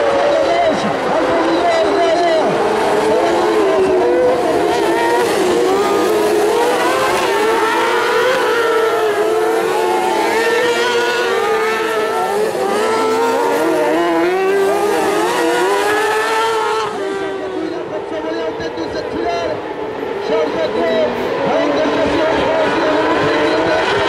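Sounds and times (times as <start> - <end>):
buggy engines revving high: 0.0 - 24.0.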